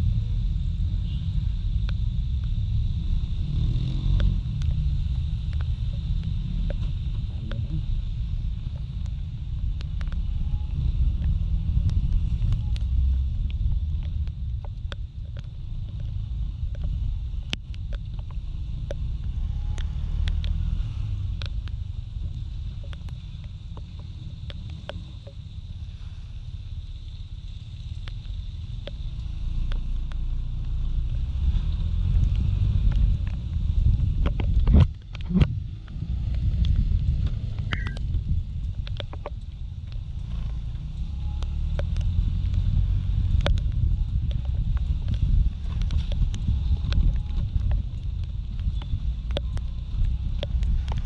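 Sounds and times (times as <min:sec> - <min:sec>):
rain hiss: 0:00.0 - 0:51.0
scooter road rumble: 0:00.0 - 0:51.0
wind noise: 0:00.0 - 0:51.0.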